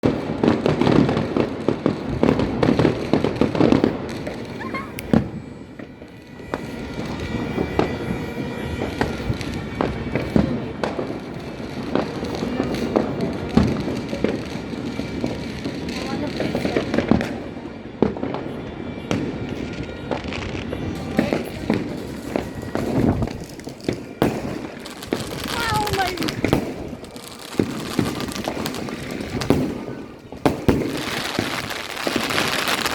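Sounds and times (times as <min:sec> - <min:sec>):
fireworks bangs and crackles: 0:00.0 - 0:32.9.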